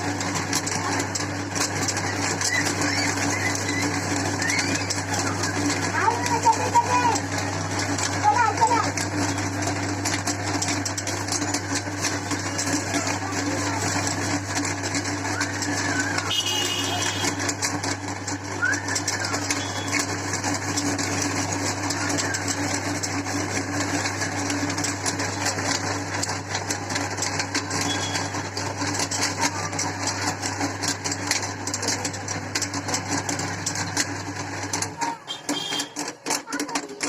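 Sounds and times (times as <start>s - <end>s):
electric meat grinder running: 0.0s - 37.0s
noodles crackling in grinder: 0.0s - 37.0s.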